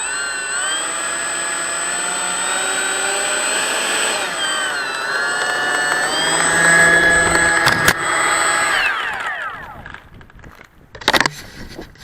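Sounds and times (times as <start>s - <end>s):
electric ducted fan whine: 0.0s - 10.3s.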